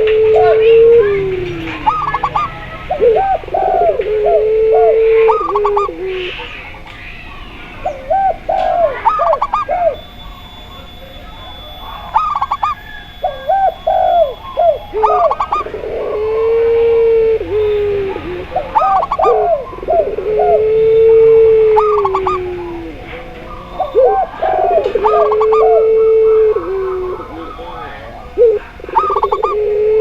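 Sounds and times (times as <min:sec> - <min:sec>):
doves cooing: 0:00.0 - 0:30.0
long low dove coo: 0:00.0 - 0:30.0.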